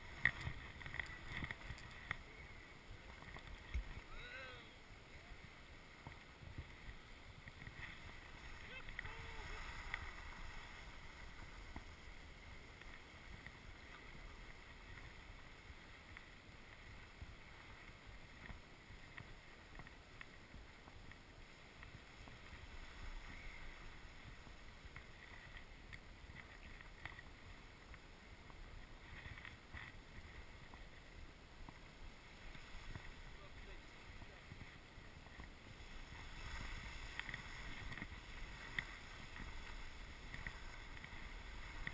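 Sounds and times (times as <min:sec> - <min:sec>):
skis sliding over snow: 0:00.0 - 0:41.9
wind rumble on microphone: 0:00.0 - 0:41.9.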